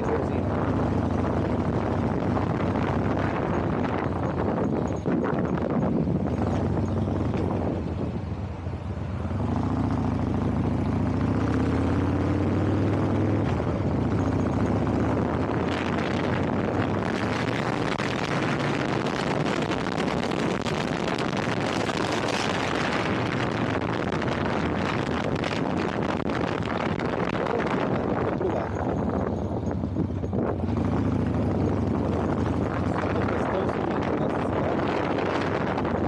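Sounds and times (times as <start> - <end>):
vehicle engine accelerating: 0.0 - 36.0
wind and road noise: 0.0 - 36.0.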